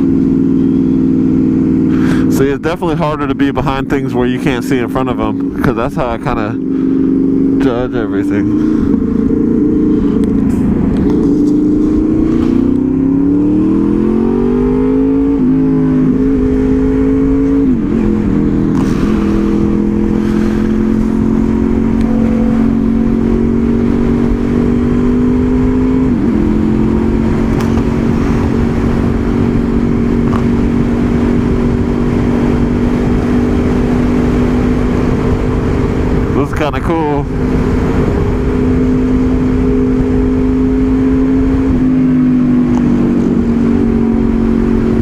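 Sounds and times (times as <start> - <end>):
motorcycle engine cruising: 0.0 - 45.0.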